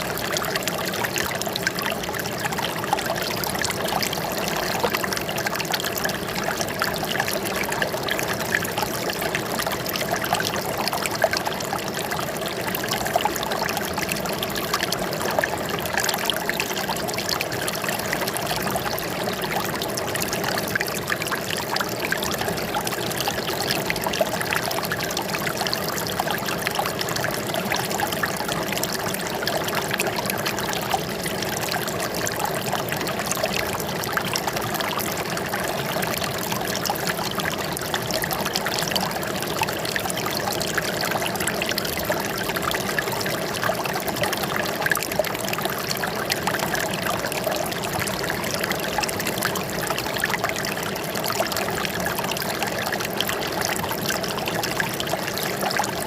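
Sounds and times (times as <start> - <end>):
water flowing and trickling: 0.0 - 56.0.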